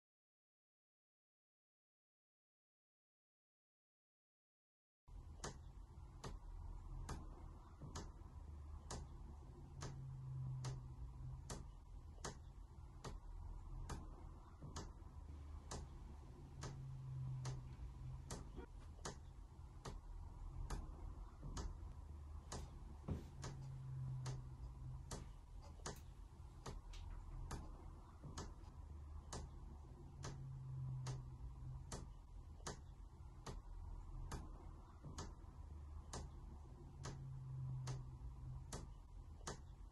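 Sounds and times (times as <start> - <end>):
low hum: 5.1 - 39.9
clock ticking: 5.3 - 39.9.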